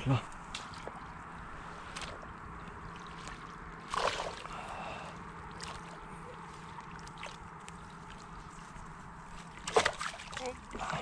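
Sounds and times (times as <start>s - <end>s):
water lapping: 0.0s - 11.0s
water splashing and sloshing: 0.0s - 11.0s.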